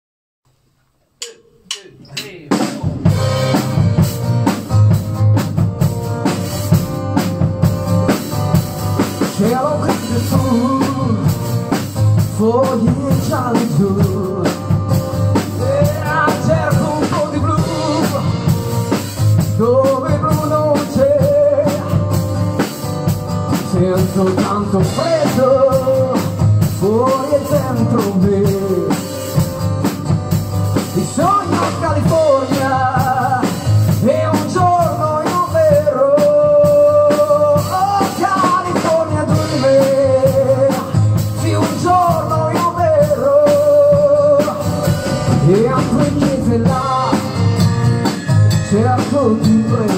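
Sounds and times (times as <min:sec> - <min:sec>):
drum hits: 0:01.2 - 0:49.9
rock band playing: 0:01.2 - 0:49.9
melodic guitar lead line: 0:03.0 - 0:49.9.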